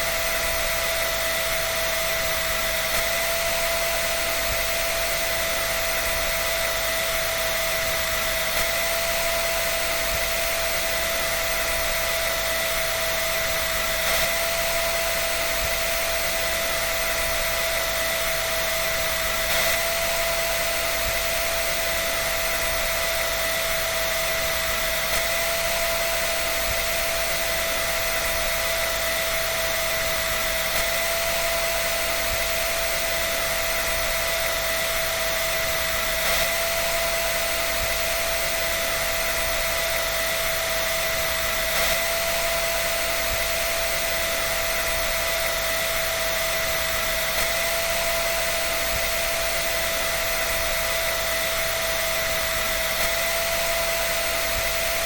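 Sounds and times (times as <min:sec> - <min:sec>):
electric dryer running: 0:00.0 - 0:55.0.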